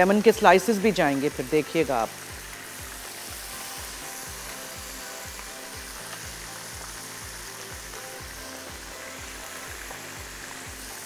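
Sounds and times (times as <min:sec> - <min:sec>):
background music with a beat: 0:00.0 - 0:11.0
onions sizzling in a frying pan: 0:00.0 - 0:11.0.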